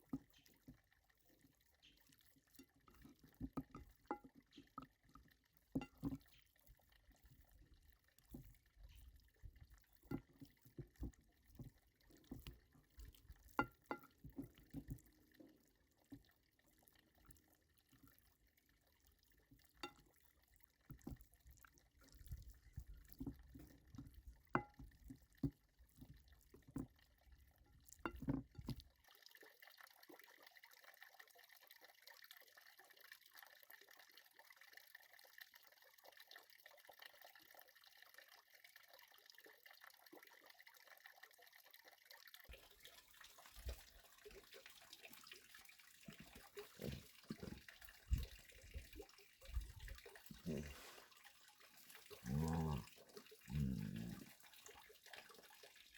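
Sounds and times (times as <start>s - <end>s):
trickling and dripping water: 0.0s - 55.9s.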